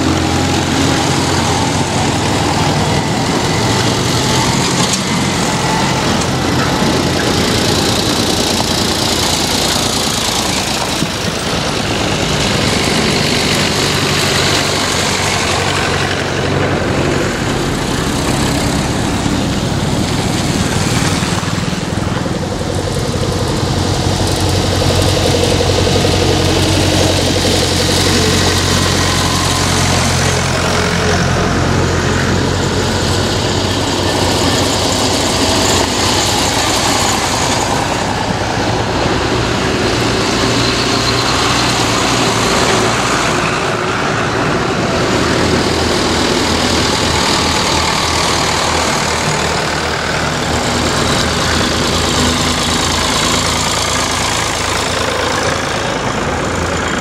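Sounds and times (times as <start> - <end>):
jeep engine: 0.0 - 57.0
motorcycle engine: 0.0 - 57.0
tractor engines passing: 0.0 - 57.0.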